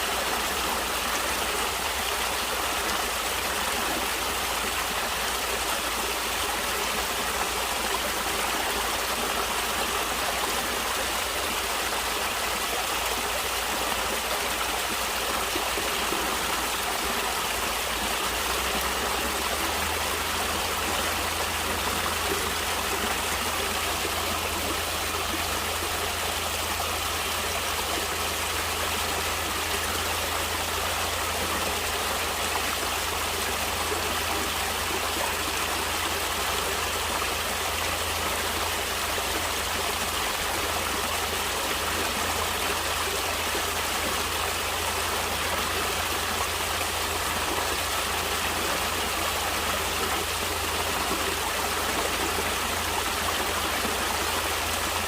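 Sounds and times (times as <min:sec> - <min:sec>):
stream of running water: 0:00.0 - 0:55.0.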